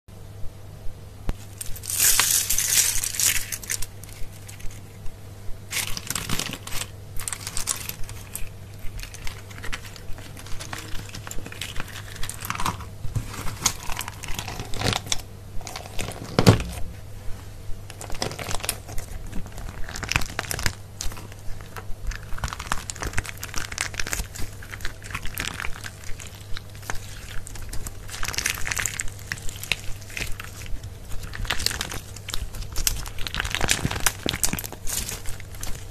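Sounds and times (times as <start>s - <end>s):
faint low hum: 0.1s - 35.9s
crackling bursts: 1.3s - 16.9s, 17.7s - 35.9s.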